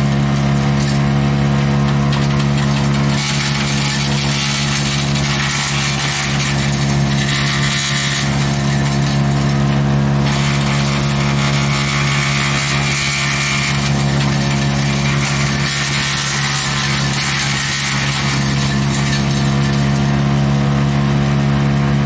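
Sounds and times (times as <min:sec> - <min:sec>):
wood being chipped: 0:00.0 - 0:21.1
wood chipper engine drone: 0:00.0 - 0:22.0.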